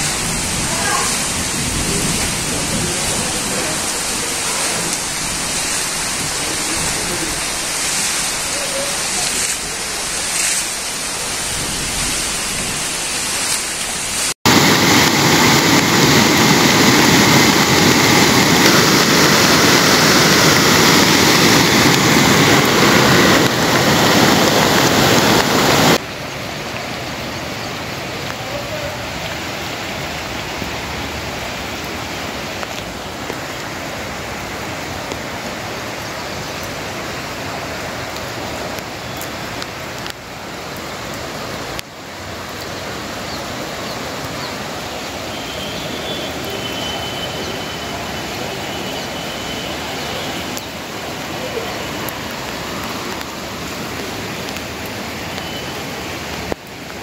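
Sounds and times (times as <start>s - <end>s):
fast-flowing floodwater: 0.0s - 57.0s
heavy rain: 0.0s - 57.0s.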